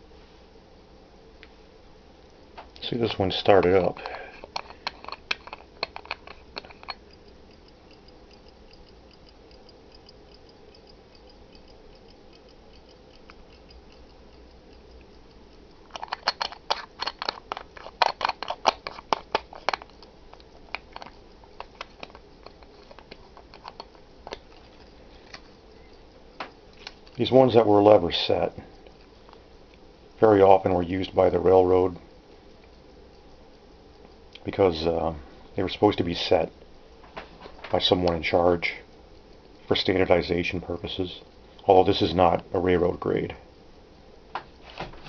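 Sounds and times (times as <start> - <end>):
pocket watch ticking: 3.6 - 37.0, 37.7 - 42.5
irregular clicking: 3.6 - 42.4.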